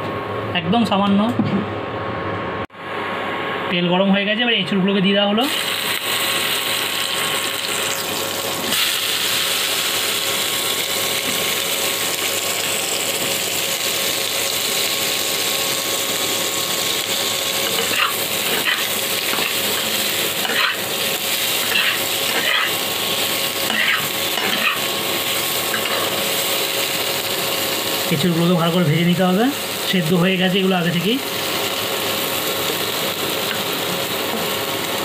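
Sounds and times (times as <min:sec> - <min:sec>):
food sizzling in hot oil: 0:05.4 - 0:35.0.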